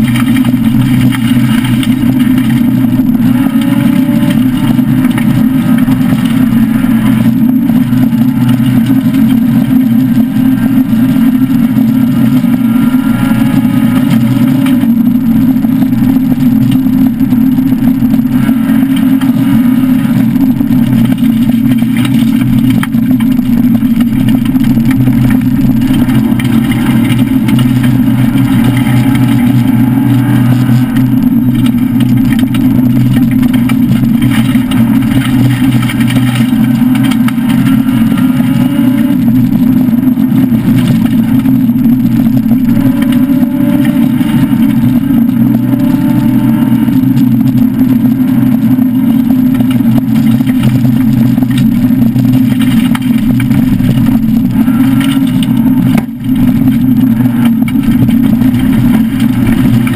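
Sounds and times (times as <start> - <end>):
car engine droning under load: 0.0 - 59.9.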